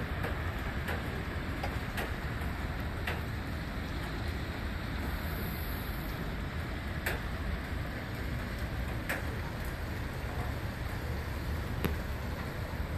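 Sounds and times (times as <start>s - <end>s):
hiss and rumble of snowfall: 0.0s - 12.9s.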